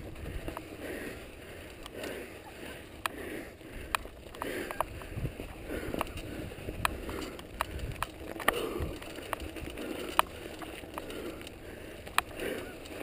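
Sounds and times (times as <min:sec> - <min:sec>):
bike and stones clicking rattling: 0:00.0 - 0:13.0
bike tyres crunching on gravel: 0:00.0 - 0:13.0.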